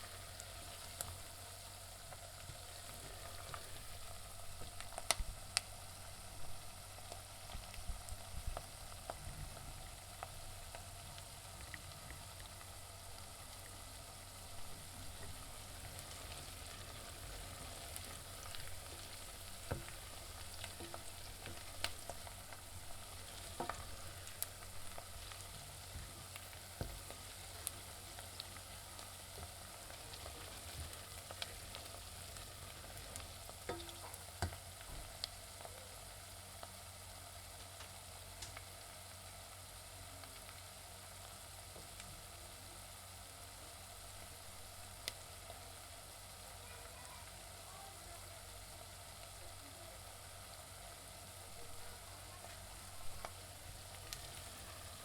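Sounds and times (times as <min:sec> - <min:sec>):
onions sizzling in oil: 0:00.0 - 0:55.0.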